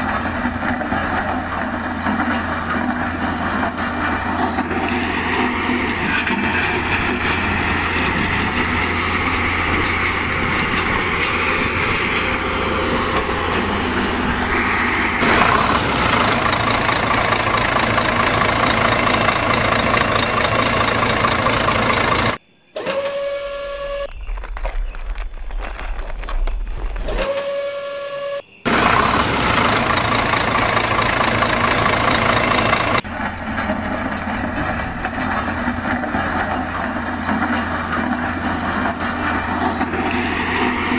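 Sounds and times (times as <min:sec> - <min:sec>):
dump truck engine running: 0:00.0 - 0:24.1, 0:26.9 - 0:40.9
road roller engine running: 0:00.0 - 0:24.1, 0:27.0 - 0:40.9.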